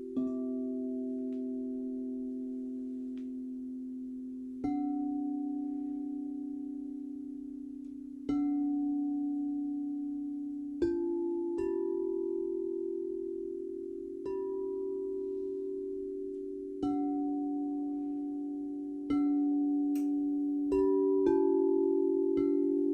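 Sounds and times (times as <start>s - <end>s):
crystal singing bowls ringing: 0.0s - 22.9s.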